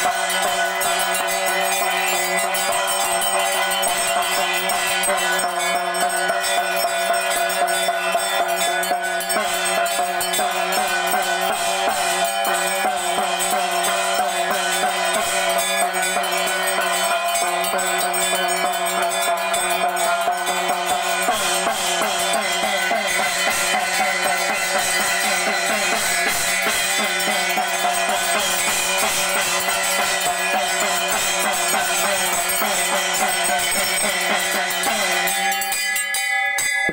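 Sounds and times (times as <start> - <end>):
drums and cymbals: 0.0 - 36.9
temple bells ringing: 0.0 - 36.9.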